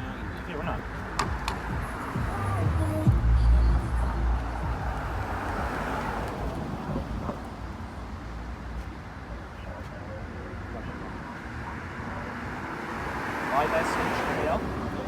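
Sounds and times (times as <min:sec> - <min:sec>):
low vehicle rumble: 0:00.0 - 0:15.0
road traffic hum: 0:00.0 - 0:15.0.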